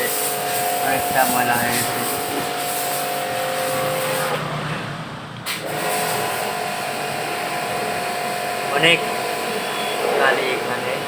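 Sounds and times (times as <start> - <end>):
machine hissing and humming: 0.0 - 11.0.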